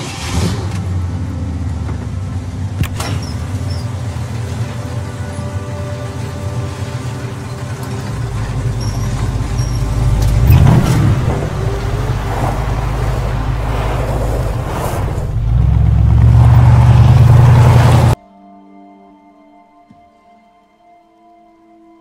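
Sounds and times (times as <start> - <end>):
car engine rumbling: 0.0 - 18.2.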